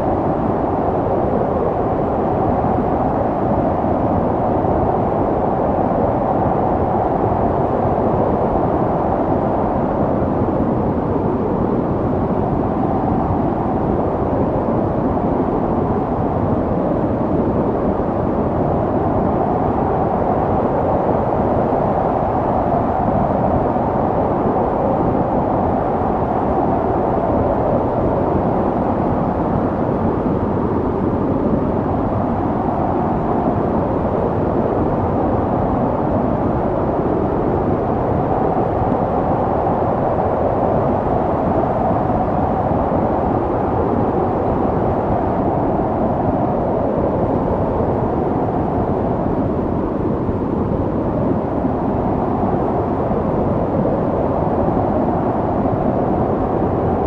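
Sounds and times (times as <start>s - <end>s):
snowstorm wind blowing: 0.0s - 57.0s.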